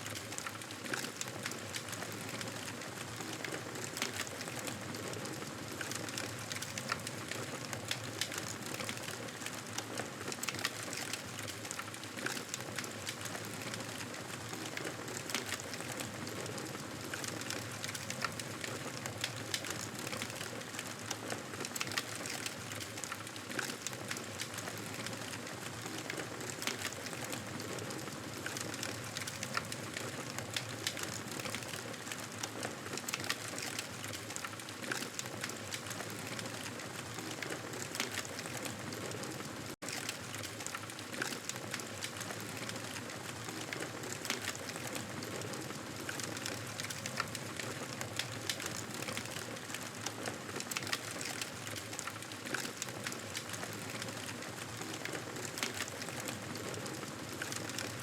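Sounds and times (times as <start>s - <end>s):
wood fire crackling: 0.1s - 58.0s.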